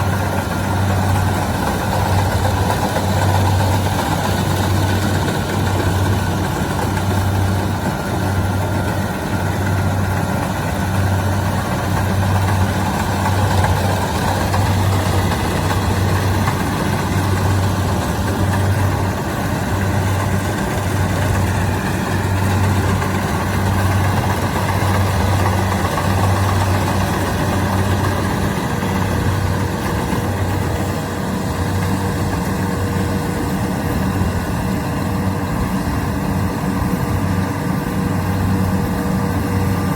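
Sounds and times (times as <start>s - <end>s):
diesel engine throbbing hum: 0.0s - 39.9s.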